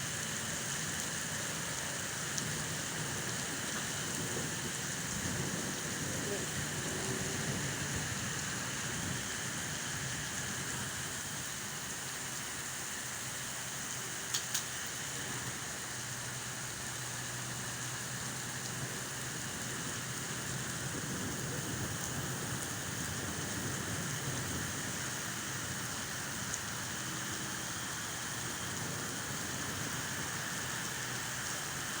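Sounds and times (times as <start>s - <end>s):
steady rain hissing: 0.0s - 32.0s.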